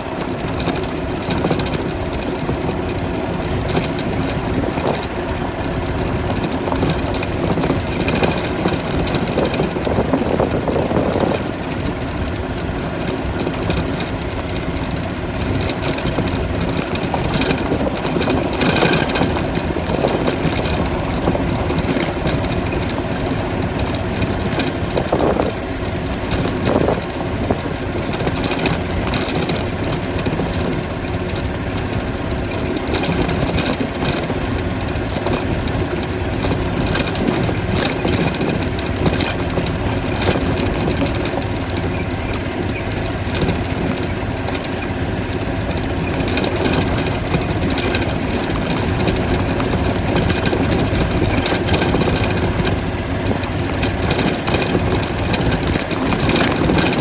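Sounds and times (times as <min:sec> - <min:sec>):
bumps and rattles: 0:00.0 - 0:57.0
golf cart motor droning: 0:00.0 - 0:57.0.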